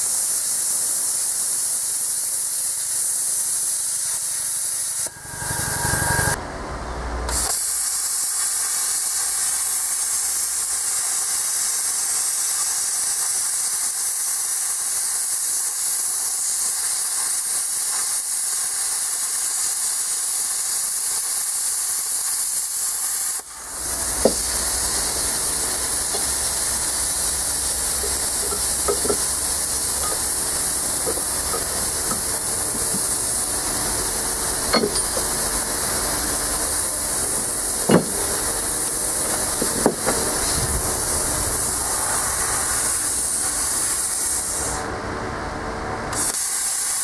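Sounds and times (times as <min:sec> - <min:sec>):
hiss with rumble: 0:00.0 - 0:06.4, 0:07.3 - 0:44.9, 0:46.1 - 0:47.0
plasma cutter arc hissing: 0:00.0 - 0:06.4, 0:07.3 - 0:44.9, 0:46.1 - 0:47.0.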